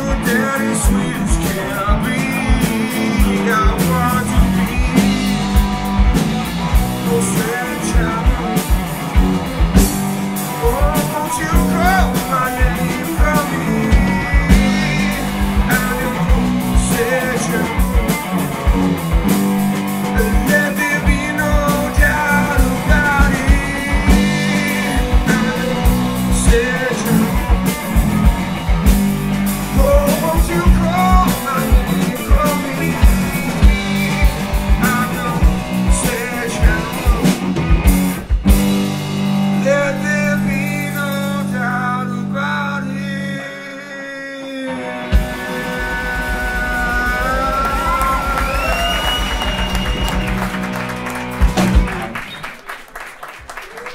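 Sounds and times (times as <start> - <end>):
man singing: 0.0 - 37.8, 39.3 - 50.3
drums: 0.0 - 43.5, 44.7 - 53.9
electric guitar: 0.0 - 53.9.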